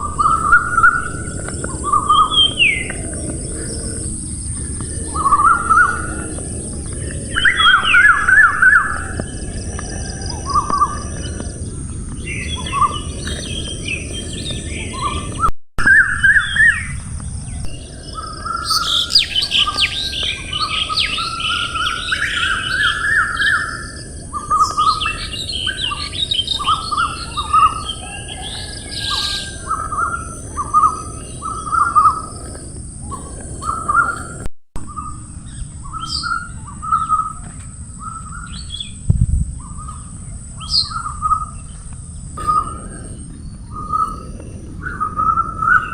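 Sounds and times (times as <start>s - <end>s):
birds chirping: 0.0s - 45.9s
high chattering birdsong: 0.0s - 45.9s.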